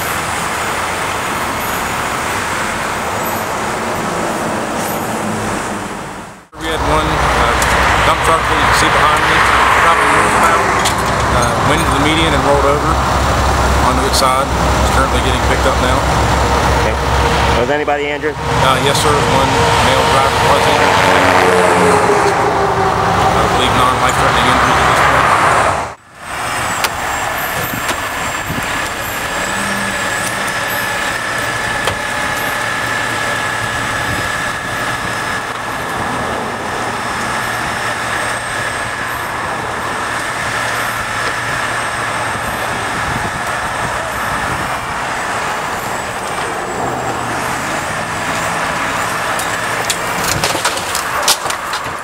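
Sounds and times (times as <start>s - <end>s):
diesel engine under load: 0.0s - 52.0s
high steady whine: 5.9s - 52.0s.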